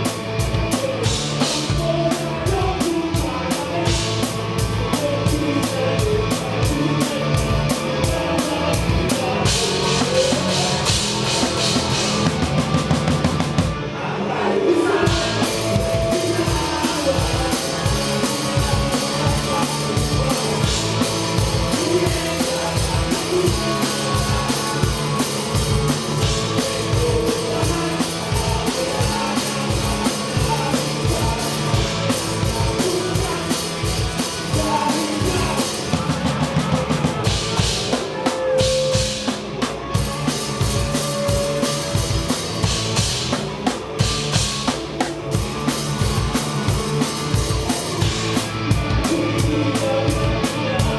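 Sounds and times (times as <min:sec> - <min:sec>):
drum kit beat: 0:00.0 - 0:13.8, 0:15.0 - 0:50.9
live rock band playing: 0:00.0 - 0:14.1, 0:14.7 - 0:50.9.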